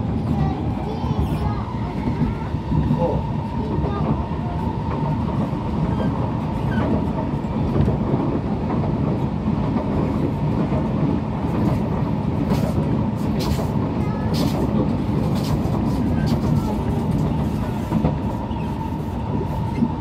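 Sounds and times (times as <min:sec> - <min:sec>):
train rumble inside carriage: 0:00.0 - 0:20.0.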